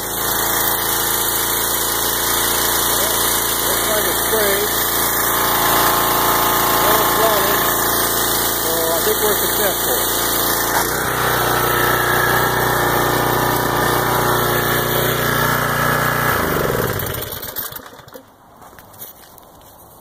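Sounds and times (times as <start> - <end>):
small gas engine running: 0.0 - 18.4.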